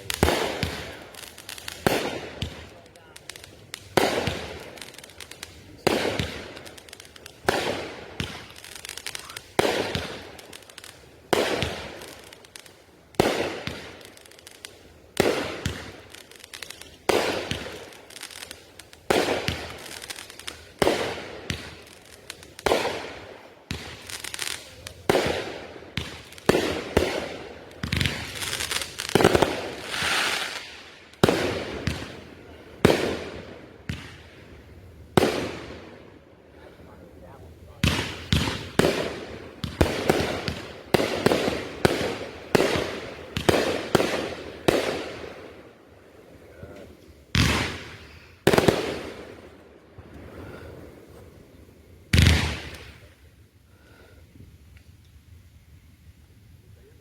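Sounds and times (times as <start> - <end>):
fireworks bursts echoing: 0.0 - 50.9, 52.1 - 53.1.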